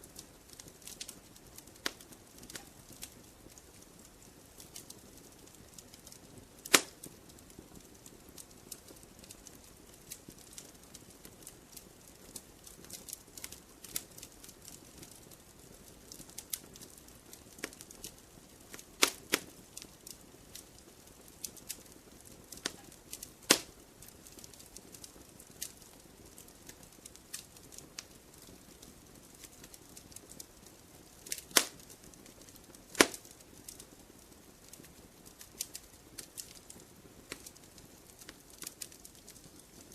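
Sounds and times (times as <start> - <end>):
faint low hiss: 0.0 - 39.9
wood fire crackling: 0.0 - 39.9.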